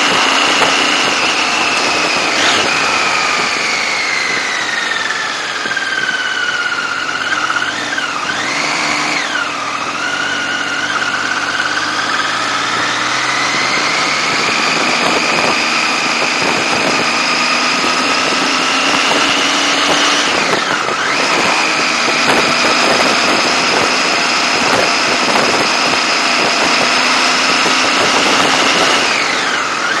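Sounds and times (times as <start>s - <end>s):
motorcycle engine running: 0.0s - 30.0s
road and wind noise: 0.0s - 30.0s.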